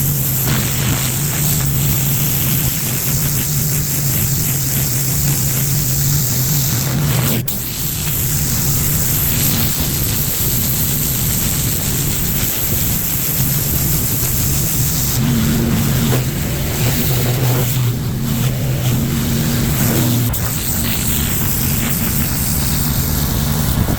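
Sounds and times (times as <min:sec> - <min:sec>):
high-pressure water spray hiss: 0:00.0 - 0:23.9
pressure washer engine humming: 0:00.0 - 0:23.9.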